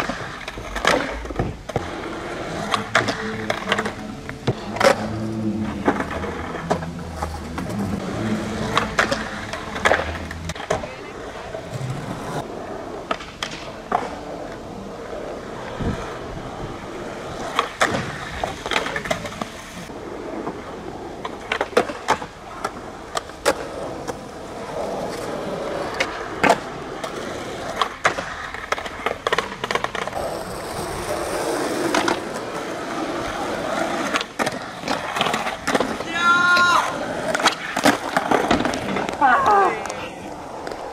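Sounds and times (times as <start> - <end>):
skateboard clacking: 0.0 - 40.9
skateboard wheels rolling on asphalt: 0.0 - 40.9.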